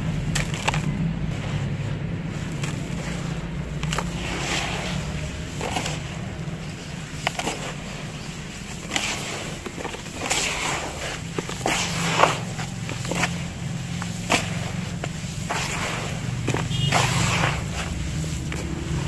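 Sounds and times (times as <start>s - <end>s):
hands crumbling damp cement mix: 0.0s - 19.0s.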